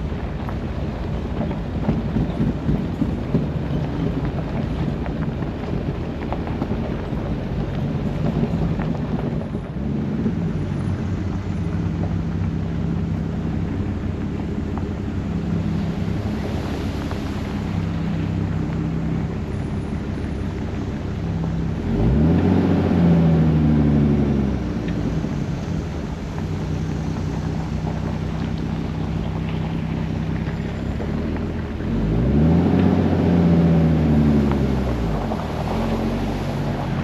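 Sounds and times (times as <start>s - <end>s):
car engine driving slowly: 0.0s - 37.0s
wind noise on microphone: 0.0s - 37.0s.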